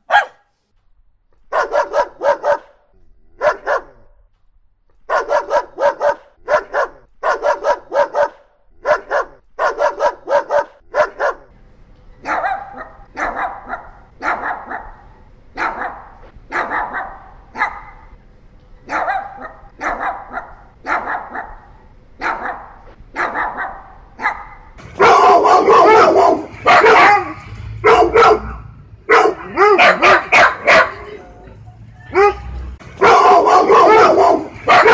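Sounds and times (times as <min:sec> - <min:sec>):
dog barking: 0:00.0 - 0:00.5, 0:01.5 - 0:02.8, 0:03.4 - 0:04.2, 0:05.1 - 0:11.5, 0:12.2 - 0:15.0, 0:15.6 - 0:18.1, 0:18.9 - 0:31.0, 0:32.1 - 0:34.9.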